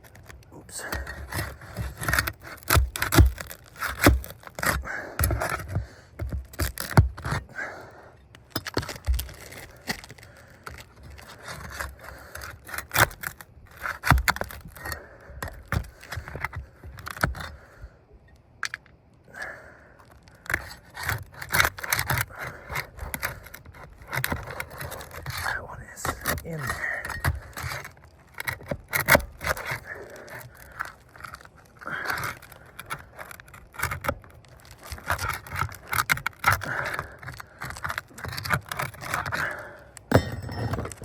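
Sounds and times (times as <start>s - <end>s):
pry tool scraping shingles: 0.0s - 17.8s, 19.4s - 41.0s.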